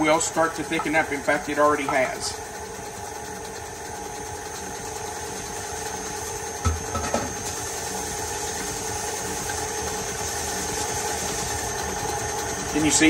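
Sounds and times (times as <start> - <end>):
stand mixer whipping: 0.0 - 13.0.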